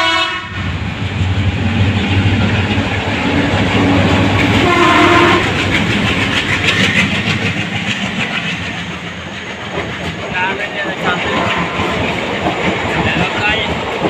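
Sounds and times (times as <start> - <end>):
train rumbling past: 0.0 - 14.0
wheels clattering over rail joints: 0.9 - 14.0.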